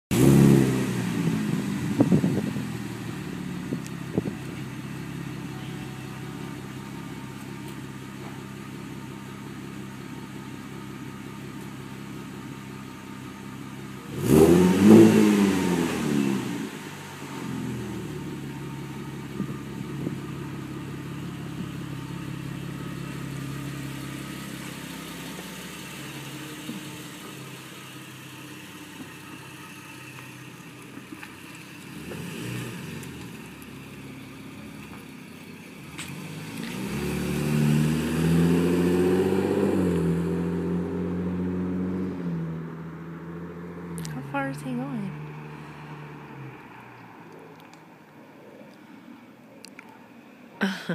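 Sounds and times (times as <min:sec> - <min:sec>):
car exhaust idling and revving: 0:00.0 - 0:49.9.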